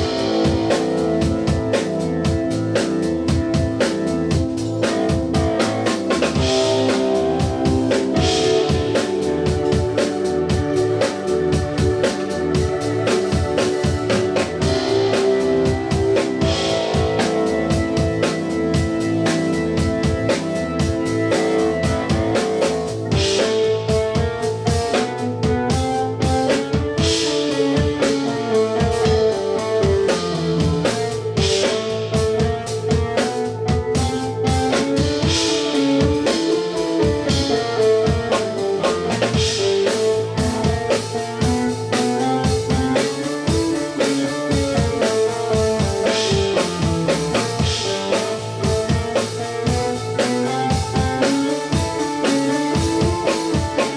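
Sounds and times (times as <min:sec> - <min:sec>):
drum kit: 0:00.0 - 0:53.9
guitar: 0:00.0 - 0:53.9.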